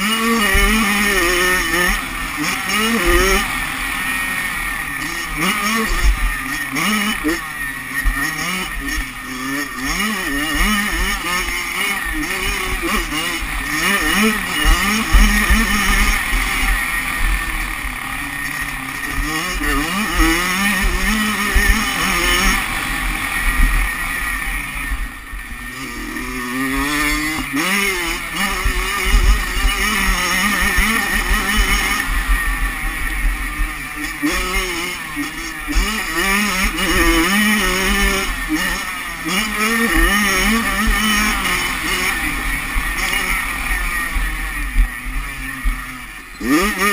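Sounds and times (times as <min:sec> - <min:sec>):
motocross engine revving: 0:00.0 - 0:46.9.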